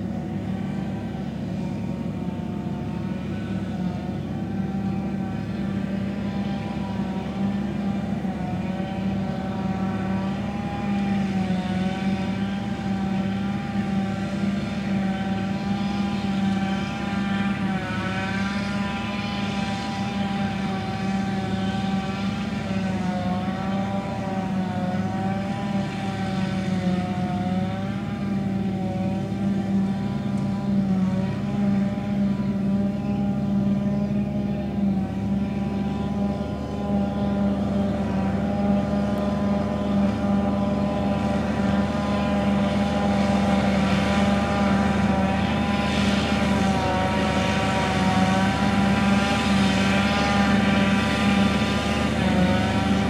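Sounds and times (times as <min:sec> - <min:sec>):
forage harvester engine drone: 0:00.0 - 0:53.0.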